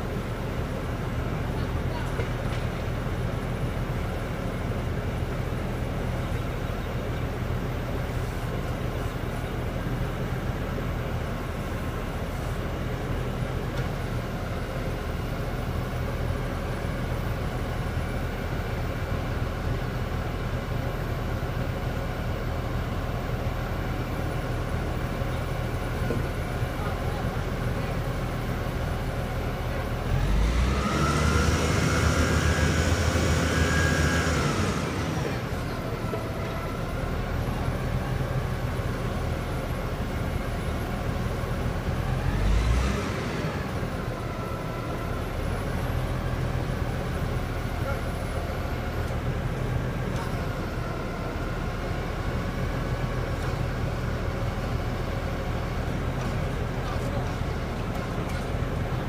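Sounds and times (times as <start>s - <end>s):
drilling rig engine running: 5.1s - 59.0s.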